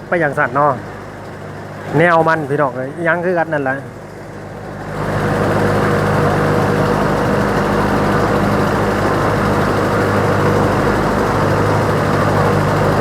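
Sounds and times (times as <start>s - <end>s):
ferry engine humming: 0.0s - 13.0s.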